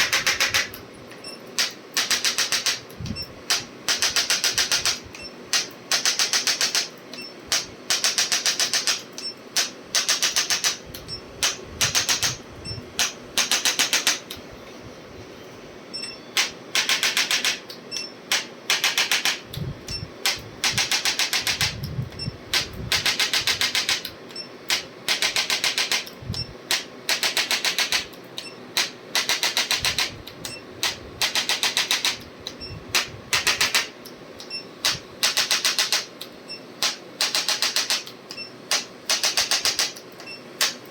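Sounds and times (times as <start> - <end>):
rapid sharp clicks: 0.0 - 0.8, 1.6 - 12.4, 13.0 - 14.4, 16.4 - 21.8, 22.5 - 40.9.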